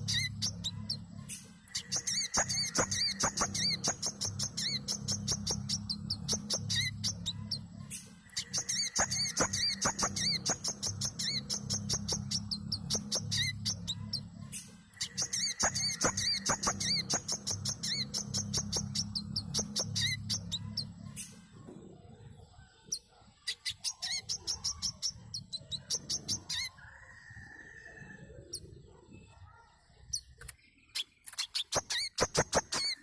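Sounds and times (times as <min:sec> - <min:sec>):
bird high sharp chirps: 0:00.0 - 0:21.5, 0:22.9 - 0:26.8, 0:29.4 - 0:33.0.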